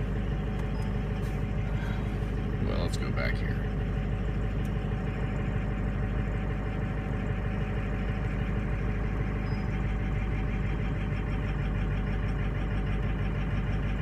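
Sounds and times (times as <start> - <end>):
diesel truck engine idling unevenly: 0.0 - 14.0.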